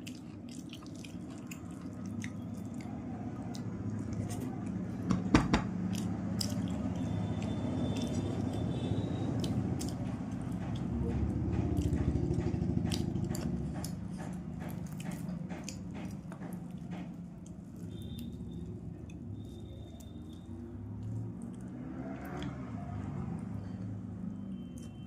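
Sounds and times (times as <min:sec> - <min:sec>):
wet chewing: 0:00.0 - 0:05.0, 0:05.8 - 0:22.6.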